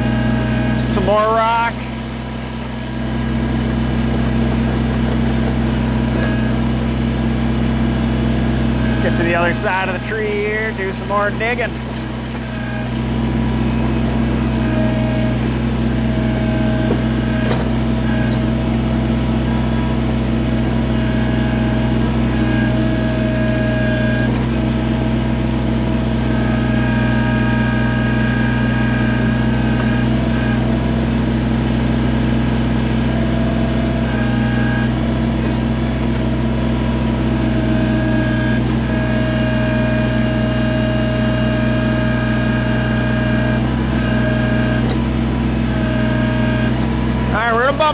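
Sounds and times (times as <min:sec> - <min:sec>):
hydraulic whine of backhoe: 0:00.0 - 0:47.9
tractor diesel engine running: 0:00.0 - 0:47.9.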